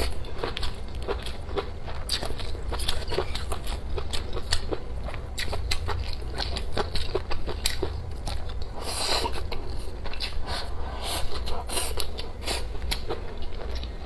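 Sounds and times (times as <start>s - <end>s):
chewing and crunching food: 0.0s - 14.0s.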